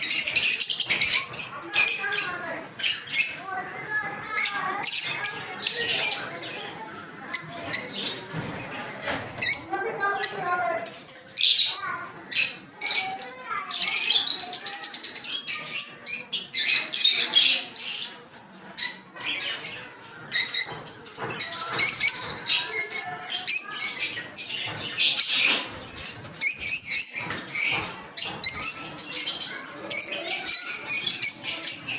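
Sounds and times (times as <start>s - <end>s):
pet birds chirping: 0.0s - 31.9s.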